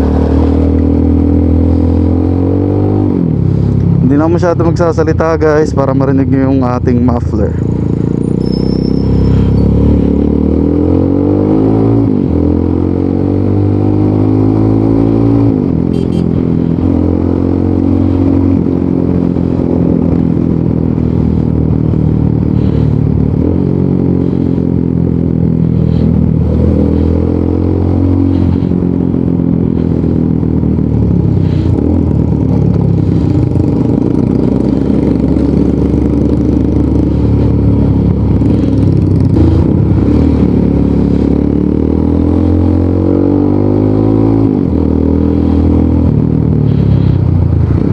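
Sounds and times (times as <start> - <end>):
motorcycle accelerating: 0.0 - 47.9.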